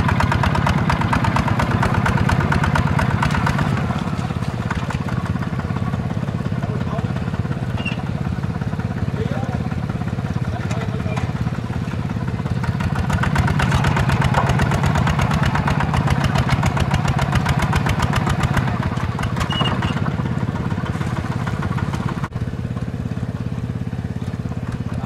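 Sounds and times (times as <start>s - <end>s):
diesel engine chugging: 0.0s - 25.0s.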